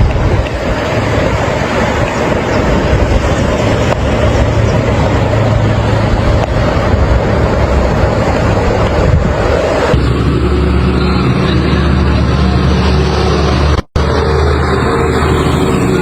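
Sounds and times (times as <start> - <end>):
low engine hum: 0.0 - 16.0
vehicle rushing through water: 0.0 - 16.0.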